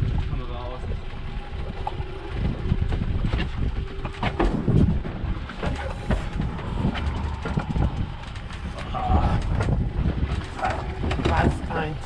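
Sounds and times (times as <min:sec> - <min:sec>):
wind and water rumble: 0:00.0 - 0:12.0
knocks and clicks from hull: 0:01.6 - 0:12.0.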